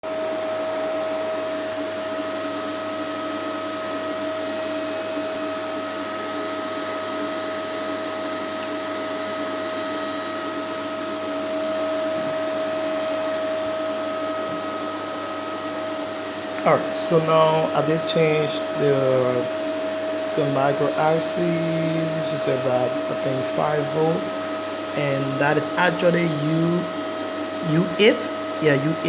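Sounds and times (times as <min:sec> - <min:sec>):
steady electronic whine: 0:00.1 - 0:29.0
fan hiss: 0:00.9 - 0:29.0.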